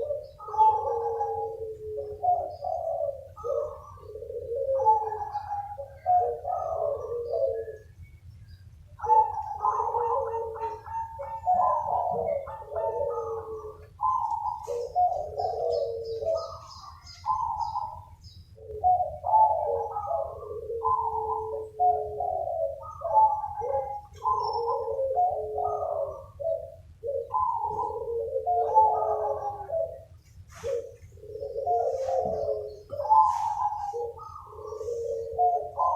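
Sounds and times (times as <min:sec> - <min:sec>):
doves cooing: 0:00.0 - 0:35.9.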